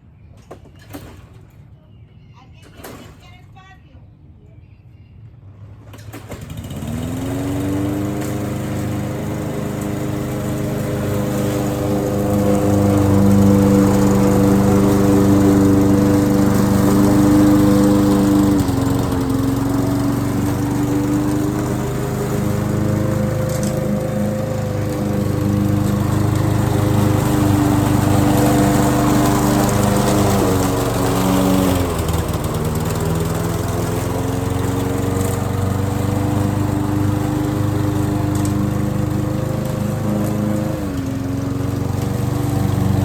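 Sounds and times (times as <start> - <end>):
lawn mower engine starting and running: 5.8 - 43.0.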